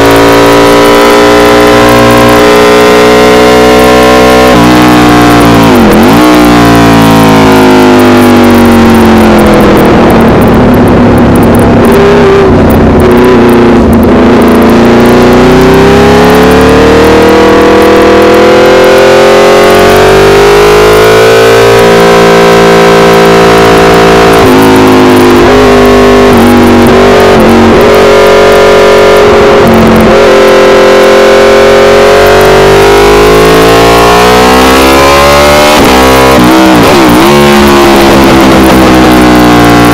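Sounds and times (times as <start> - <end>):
motorcycle engine at racing revs: 0.0 - 39.9.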